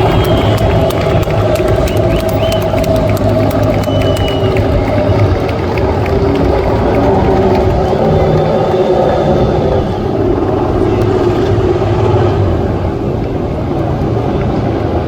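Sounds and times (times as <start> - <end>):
racing motorcycles engines: 0.0 - 15.0.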